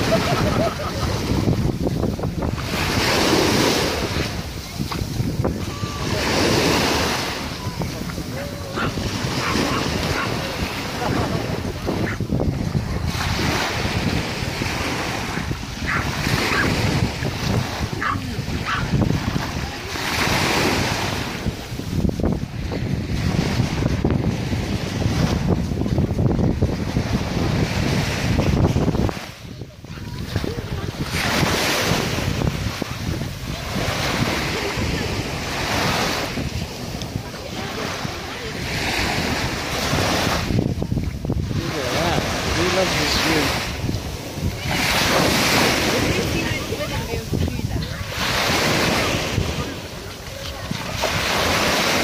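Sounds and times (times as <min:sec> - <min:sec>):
small waves lapping on sand: 0:00.0 - 0:52.0
wind buffeting microphone: 0:00.0 - 0:52.0.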